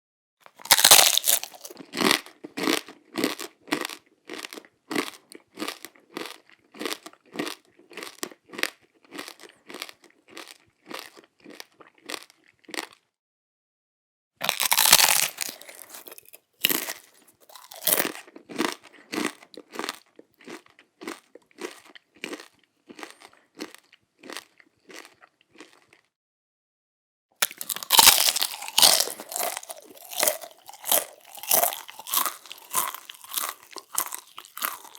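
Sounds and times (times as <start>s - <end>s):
biting into crunchy waffle: 0.4s - 13.0s, 14.4s - 26.1s, 27.4s - 34.9s
crisp chewing crunches: 0.4s - 13.0s, 14.4s - 26.1s, 27.4s - 34.9s.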